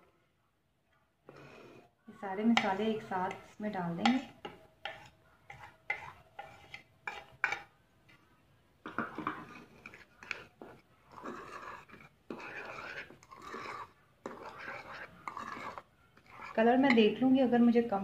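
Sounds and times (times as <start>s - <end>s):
spoon scraping around bowl: 1.3s - 8.2s, 8.8s - 17.2s.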